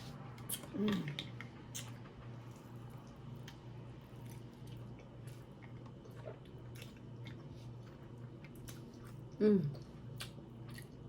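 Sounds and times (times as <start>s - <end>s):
low steady hum: 0.0s - 11.0s
person chewing: 0.0s - 11.0s.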